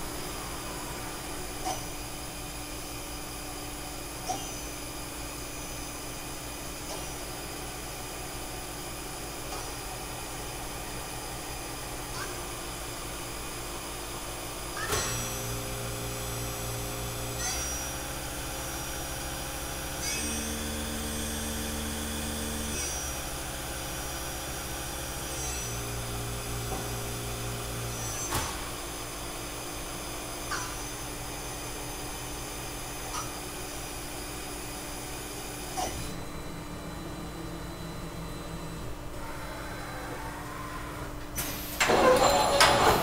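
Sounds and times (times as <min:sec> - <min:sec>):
machine motor whine: 0:00.0 - 0:43.0
steady machine hum: 0:00.0 - 0:43.0.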